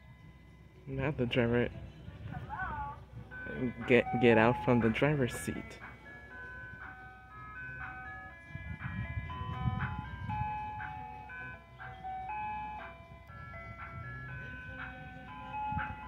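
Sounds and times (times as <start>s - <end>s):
electronic ice cream truck jingle: 0.0s - 16.0s
low vehicle rumble: 0.0s - 16.0s.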